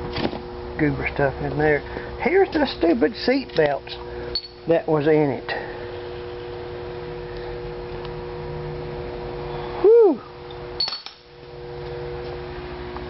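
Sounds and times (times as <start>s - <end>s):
low two-tone hum: 0.0s - 13.0s.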